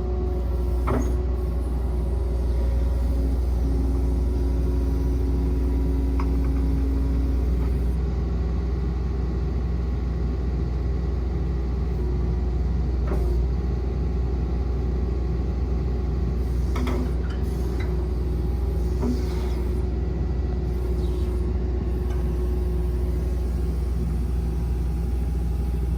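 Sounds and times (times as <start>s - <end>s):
excavator diesel engine rumbling: 0.0s - 25.9s.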